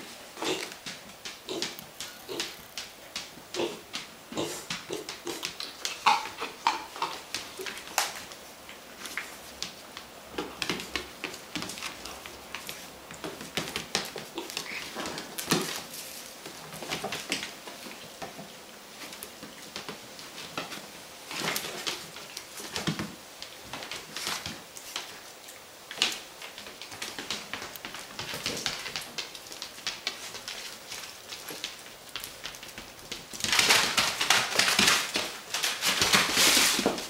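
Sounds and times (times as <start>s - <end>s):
animal feet tapping on floor: 0.0s - 37.0s.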